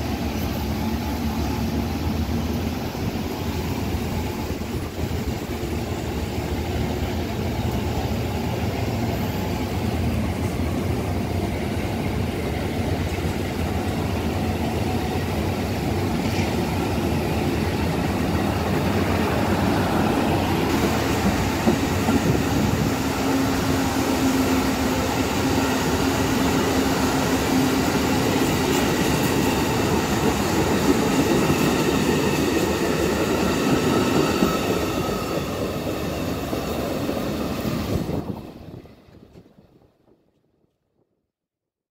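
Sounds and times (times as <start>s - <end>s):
train wheels rumbling on rail: 0.0s - 40.8s.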